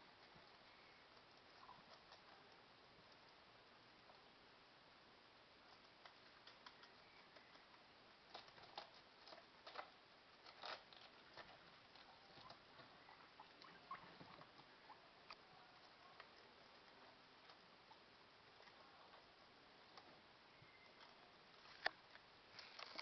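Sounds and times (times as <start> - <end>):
guinea pigs chewing vegetables: 0.0 - 23.0.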